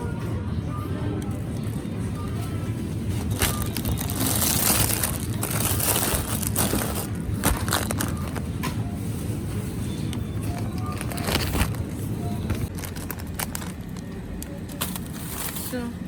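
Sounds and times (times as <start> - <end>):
rustling handling noise: 2.2 - 15.8.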